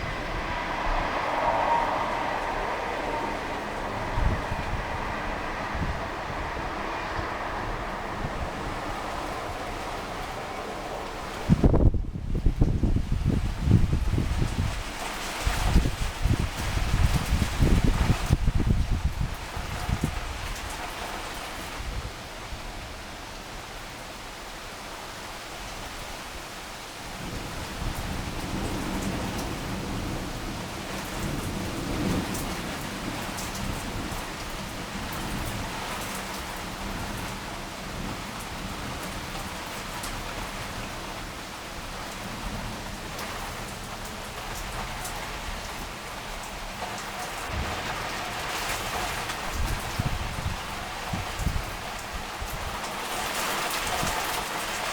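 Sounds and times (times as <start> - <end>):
thunder rumbling: 0.0 - 22.0, 27.2 - 54.9
heavy rain pouring: 0.0 - 54.9.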